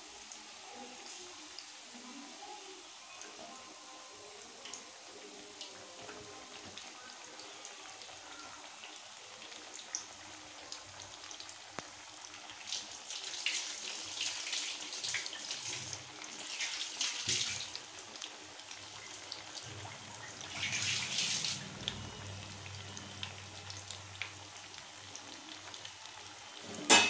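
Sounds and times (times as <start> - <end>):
chicken deep-frying in hot oil: 0.0 - 27.0.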